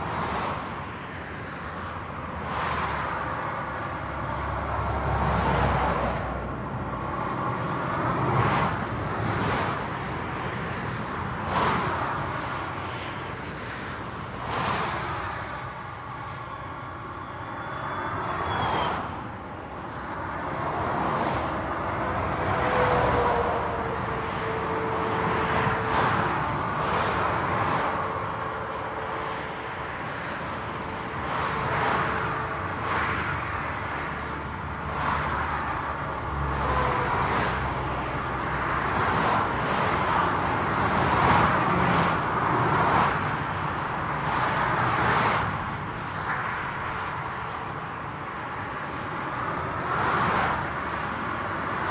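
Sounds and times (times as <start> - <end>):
faint vehicle whine: 0.0 - 51.9
highway traffic: 0.0 - 51.9.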